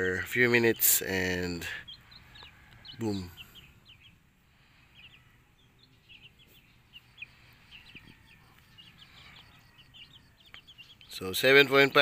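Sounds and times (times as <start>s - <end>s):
faint bird chirping: 0.0s - 12.0s.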